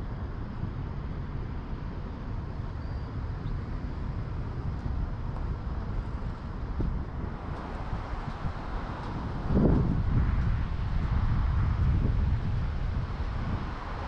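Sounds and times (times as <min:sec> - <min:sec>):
low outdoor rumble: 0:00.0 - 0:14.0
wind buffeting microphone: 0:00.0 - 0:14.0.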